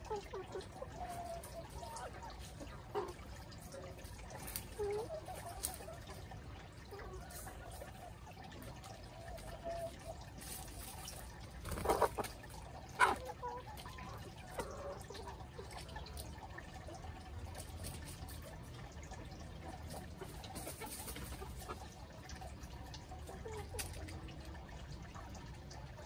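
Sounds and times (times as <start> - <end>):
chickens clucking: 0.0 - 26.0
faint steady background noise: 0.0 - 26.0.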